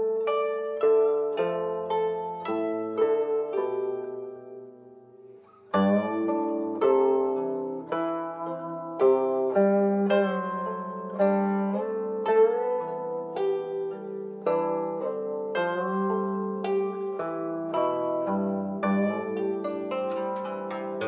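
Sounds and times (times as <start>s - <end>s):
plucked zither notes: 0.0s - 21.0s.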